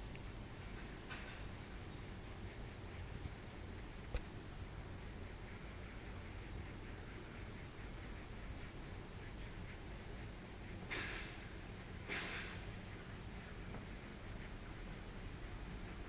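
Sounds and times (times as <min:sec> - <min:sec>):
fingers rubbing fur: 0:00.2 - 0:16.0.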